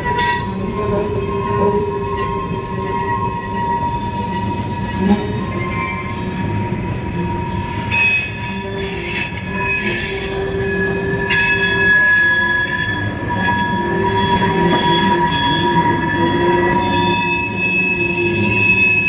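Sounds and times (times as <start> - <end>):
rumble of train wheels: 0.0 - 19.0
train wheels squealing: 0.0 - 19.0.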